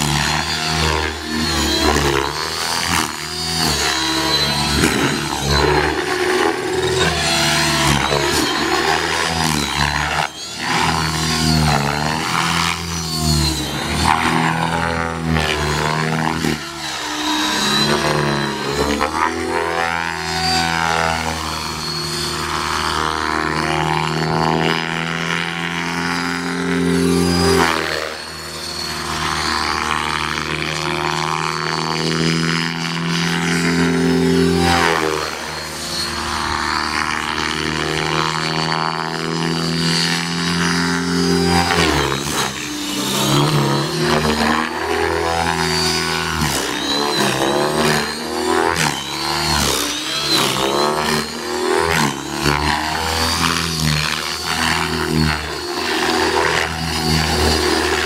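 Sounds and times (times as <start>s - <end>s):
rc helicopter whirring: 0.0s - 58.0s.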